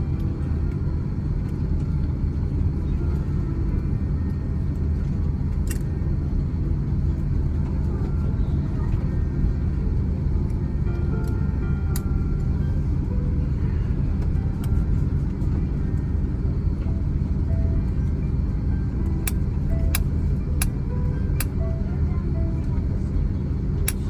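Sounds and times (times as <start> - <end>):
airplane cabin low rumble: 0.0 - 24.0.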